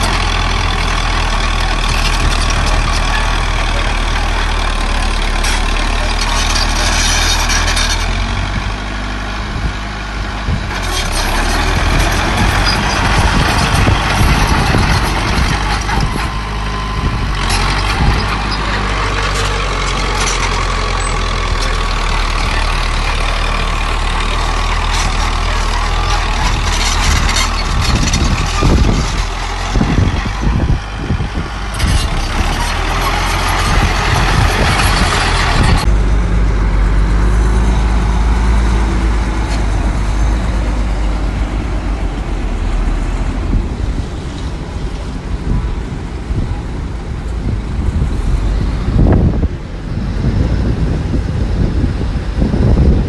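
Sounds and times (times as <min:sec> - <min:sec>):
grinding and clattering machinery: 0:00.0 - 0:46.2
diesel engines droning: 0:00.0 - 0:53.0.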